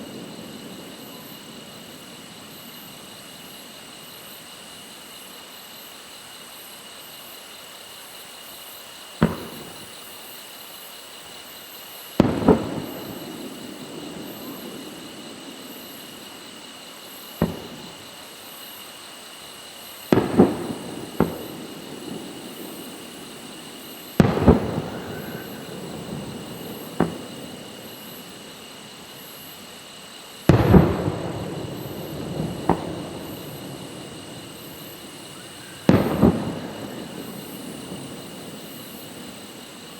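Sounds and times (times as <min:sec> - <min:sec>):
fireworks booming: 0:00.0 - 0:04.9, 0:09.2 - 0:10.4, 0:12.0 - 0:39.9.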